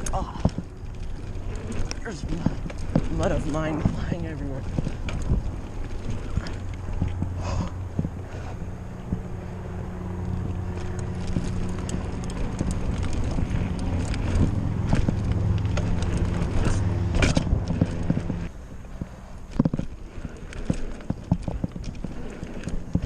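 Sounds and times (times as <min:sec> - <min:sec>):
bicycle knocks and rattles: 0:00.0 - 0:23.0
steady low hum: 0:00.0 - 0:23.0.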